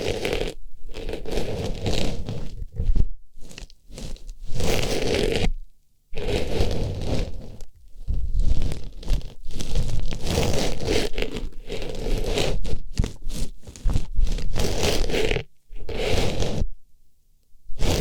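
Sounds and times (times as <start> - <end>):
scratchy rustling against microphone: 0.0 - 16.8, 17.7 - 18.0.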